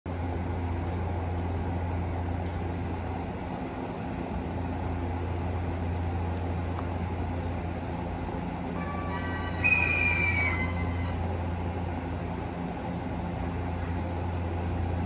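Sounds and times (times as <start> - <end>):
electric train equipment humming: 0.1 - 15.0.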